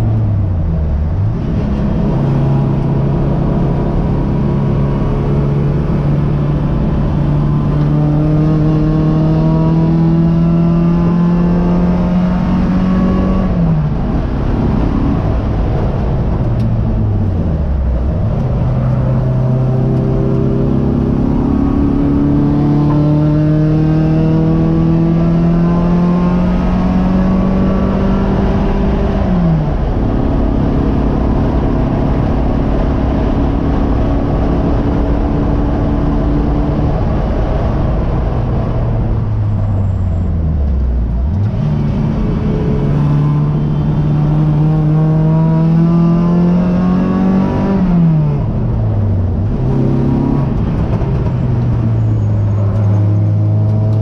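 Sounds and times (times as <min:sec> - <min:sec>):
race car engine under load: 0:00.0 - 0:54.0.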